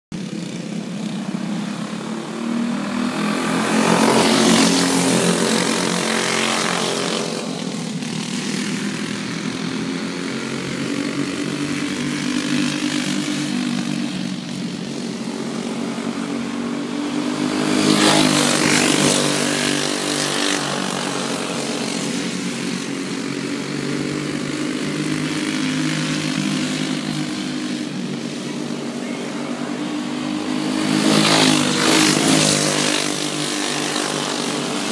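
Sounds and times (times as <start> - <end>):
racing kart engines: 0.1 - 34.9.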